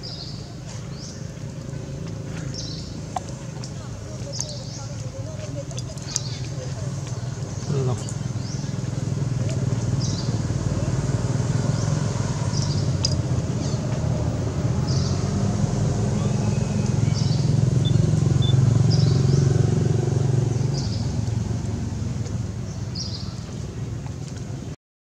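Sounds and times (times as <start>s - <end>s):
vehicle engine running: 0.9s - 24.8s.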